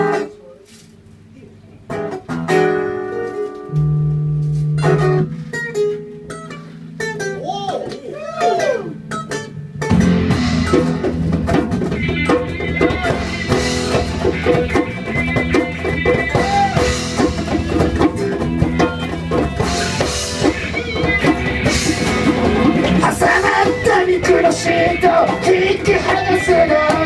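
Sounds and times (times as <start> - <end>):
live rock band playing: 0.0 - 0.4, 1.8 - 27.0
electric guitar: 1.1 - 27.0
drum kit: 1.9 - 27.0.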